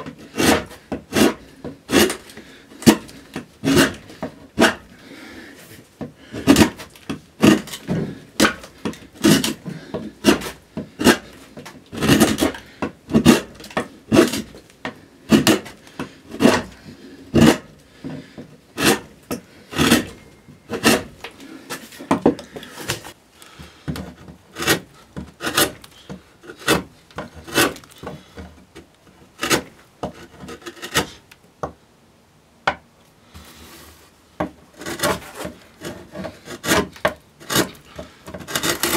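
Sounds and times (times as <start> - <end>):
gouge scraping wood: 0.0 - 23.2, 23.9 - 28.4, 29.2 - 31.2, 34.8 - 38.9.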